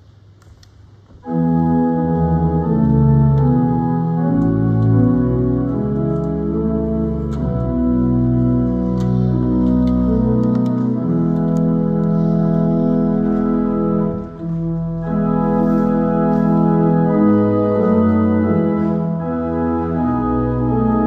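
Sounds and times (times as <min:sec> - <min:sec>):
organ playing held chords: 0:01.2 - 0:21.0.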